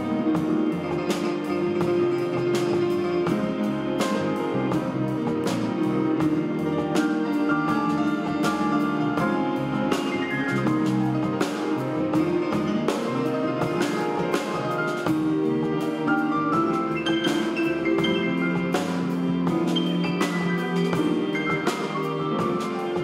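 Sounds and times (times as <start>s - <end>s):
string ensemble playing: 0.0s - 23.0s.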